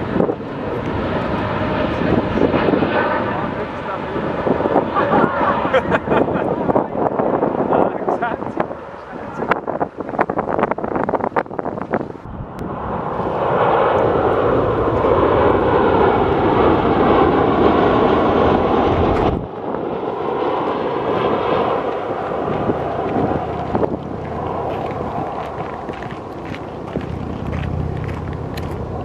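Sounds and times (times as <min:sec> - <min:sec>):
distant jet sound: 0:00.0 - 0:29.0
jet airliner passing overhead: 0:00.0 - 0:29.0.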